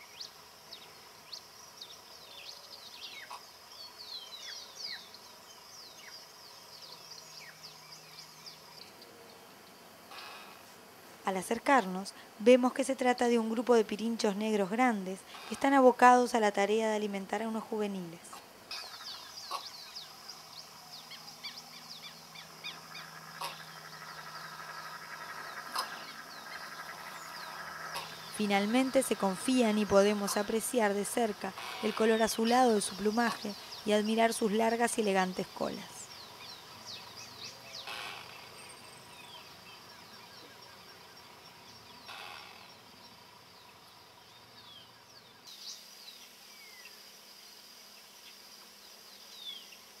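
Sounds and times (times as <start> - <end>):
birds chirping: 0.0 - 10.7, 11.3 - 47.0
high insect drone: 0.0 - 50.0.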